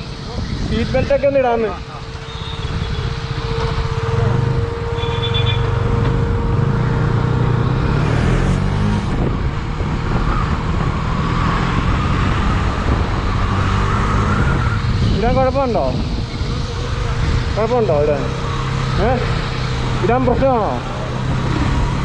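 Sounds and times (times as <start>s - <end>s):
wind noise on microphone: 0.0s - 1.6s, 2.4s - 6.7s, 7.6s - 20.4s.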